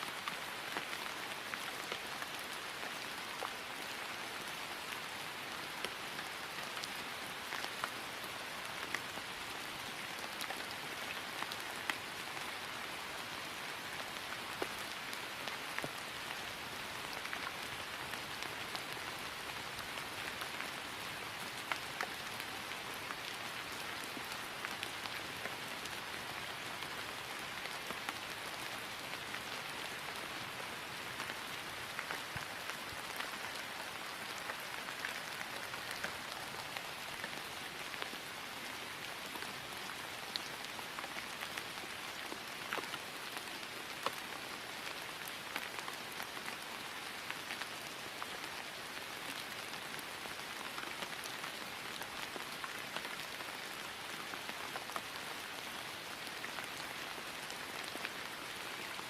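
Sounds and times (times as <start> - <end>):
rain falling on grass: 0.0 - 59.0.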